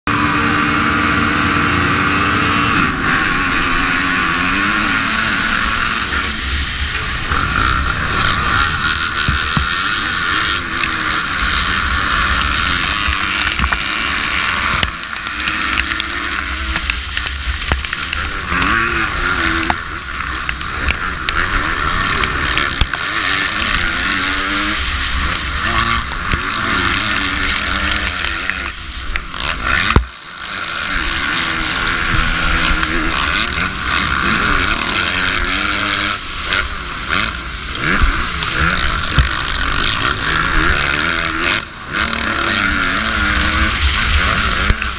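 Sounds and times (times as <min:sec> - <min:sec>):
motocross bike engine revving: 0:00.1 - 0:44.9
other motorbike engines: 0:00.1 - 0:44.9.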